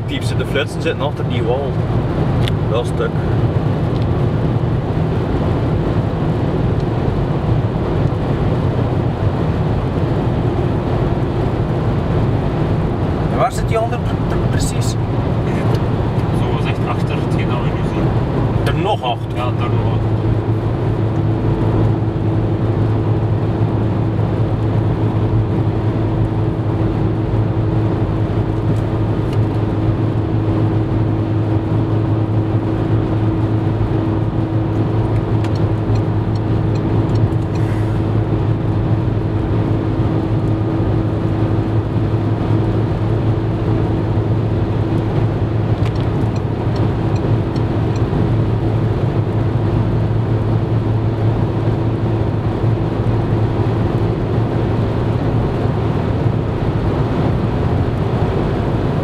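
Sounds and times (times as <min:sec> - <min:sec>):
tyre and engine drone in car: 0:00.0 - 0:59.0.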